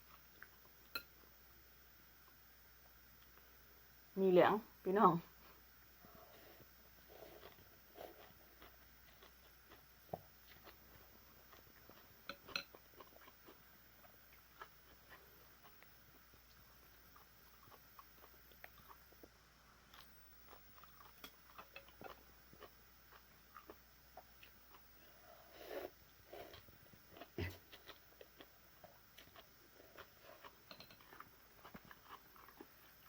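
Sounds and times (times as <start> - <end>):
soft chewing: 0.0 - 1.4, 5.4 - 33.0.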